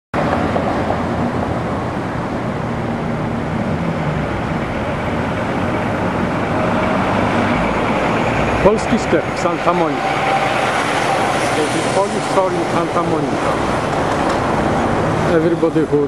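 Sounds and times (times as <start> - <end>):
road traffic noise: 0.1 - 16.0.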